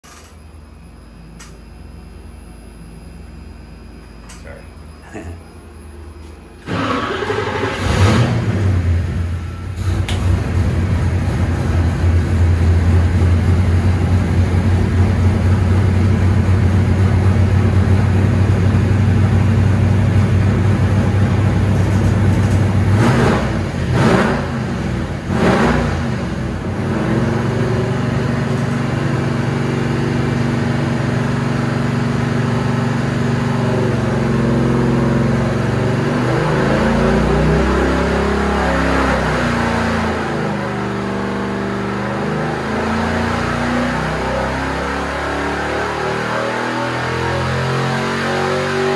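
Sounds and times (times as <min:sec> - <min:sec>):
engine running and revving: 0:06.6 - 0:48.9.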